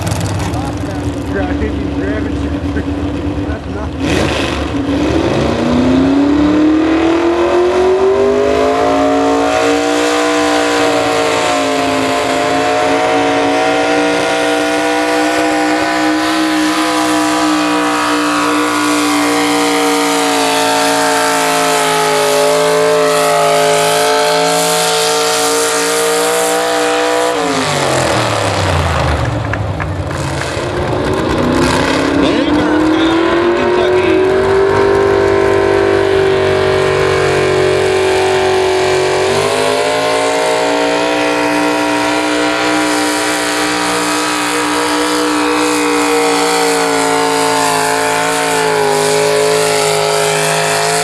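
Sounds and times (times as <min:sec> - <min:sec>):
truck engine at full throttle: 0:00.0 - 0:51.0.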